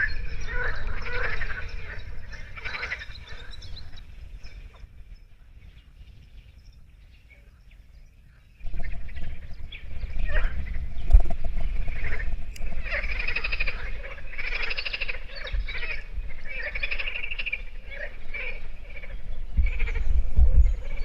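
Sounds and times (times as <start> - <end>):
frogs croaking: 0.0 - 5.6, 6.7 - 21.0
wind rumble on microphone: 0.0 - 21.0.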